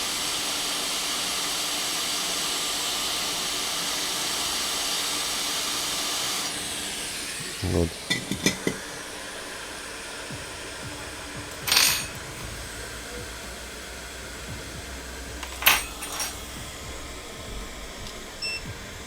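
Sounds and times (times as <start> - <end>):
hot air station blowing: 0.0 - 19.0.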